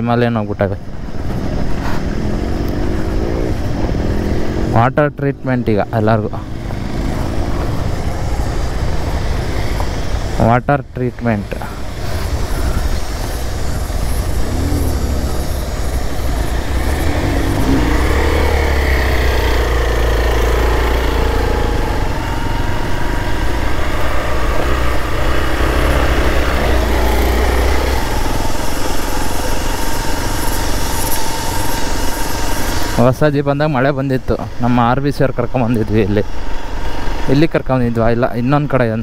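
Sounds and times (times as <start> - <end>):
motorcycle engine revving: 0.8 - 10.4, 11.3 - 33.5.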